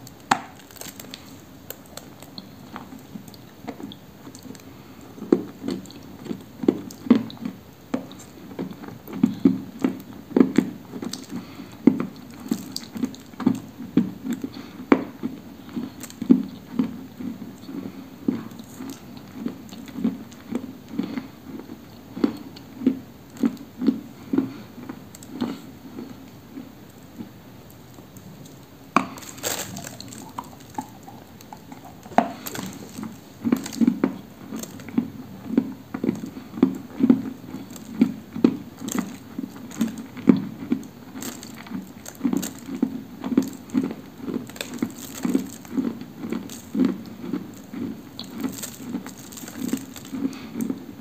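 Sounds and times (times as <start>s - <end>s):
clay being chewed with crunches: 0.0s - 51.0s.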